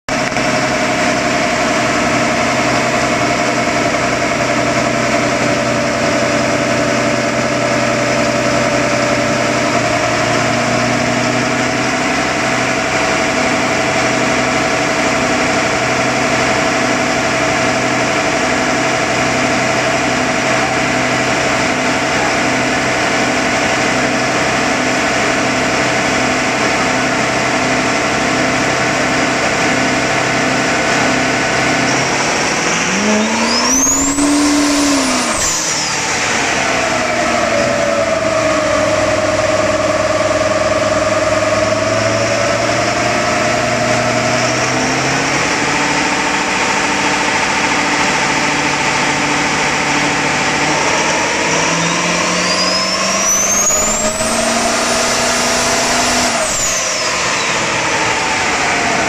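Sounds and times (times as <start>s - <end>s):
truck engine idling: 0.1s - 59.0s.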